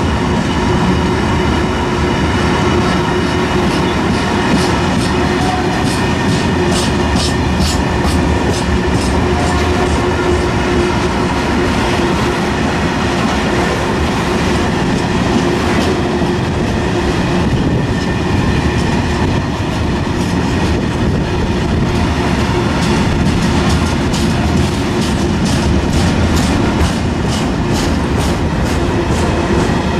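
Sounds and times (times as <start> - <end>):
freight train wheels rumbling on rails: 0.0 - 29.9.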